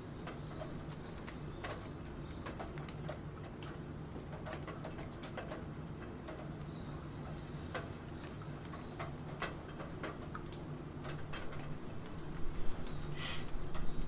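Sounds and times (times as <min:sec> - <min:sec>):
rain: 0:00.0 - 0:14.0.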